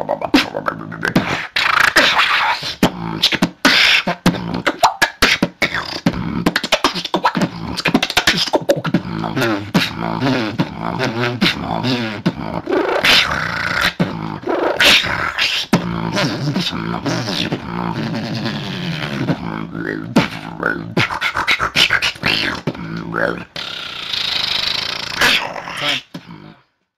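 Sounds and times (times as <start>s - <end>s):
person beatboxing: 0.0s - 26.7s.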